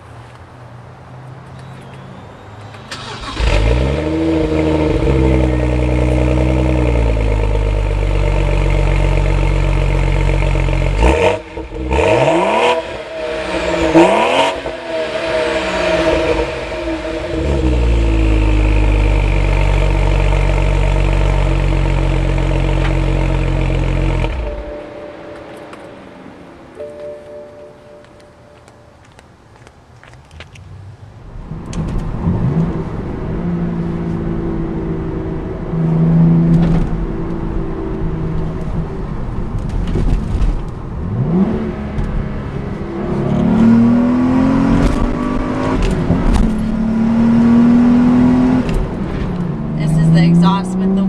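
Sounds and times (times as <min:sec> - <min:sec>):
car engine idling and revving: 0:02.6 - 0:51.0.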